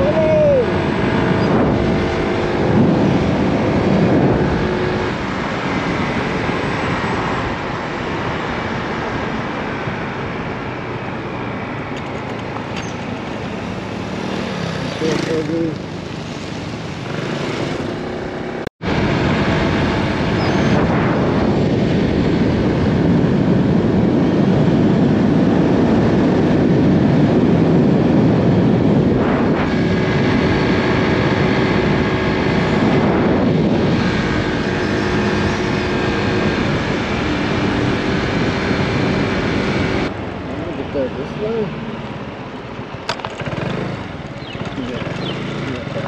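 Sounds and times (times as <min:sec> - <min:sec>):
scooter engine drone: 0:00.0 - 0:46.0
wind and road noise: 0:00.0 - 0:46.0.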